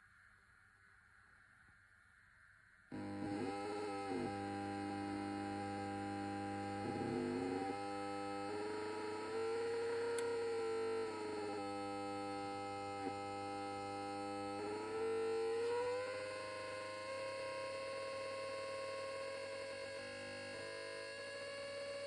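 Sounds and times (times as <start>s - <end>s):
amplifier electrical hum and buzz: 2.9s - 22.0s.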